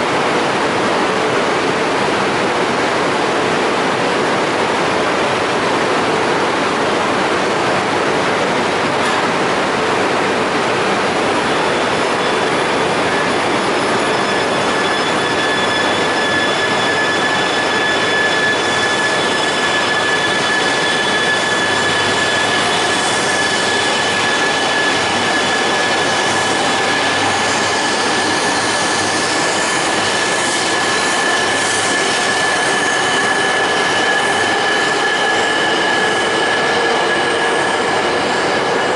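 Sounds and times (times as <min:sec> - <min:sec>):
train pulling out: 0:05.4 - 0:38.9.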